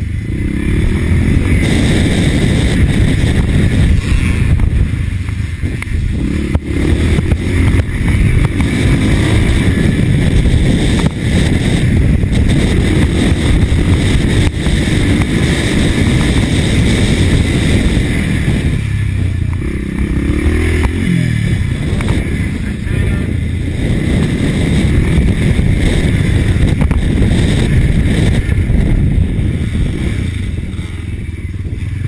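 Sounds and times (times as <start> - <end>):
motorbike engine running loudly: 0.0 - 32.0.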